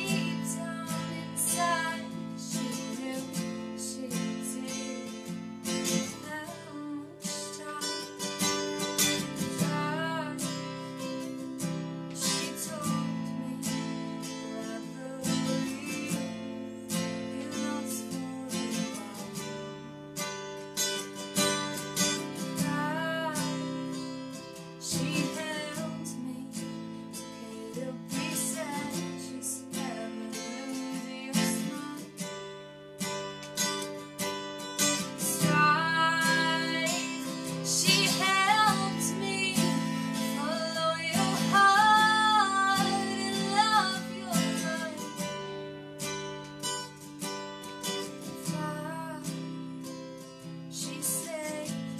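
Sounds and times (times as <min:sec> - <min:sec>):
young woman singing ballad: 0:00.0 - 0:20.0, 0:21.8 - 0:32.4, 0:34.8 - 0:46.8, 0:47.9 - 0:51.9
acoustic guitar strumming chords: 0:00.0 - 0:51.9.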